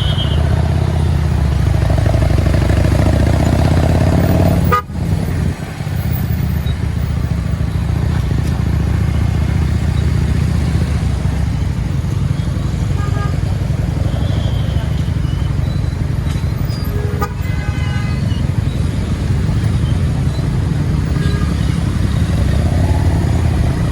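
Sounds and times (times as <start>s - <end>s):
motorcycle engine humming: 0.0s - 23.9s.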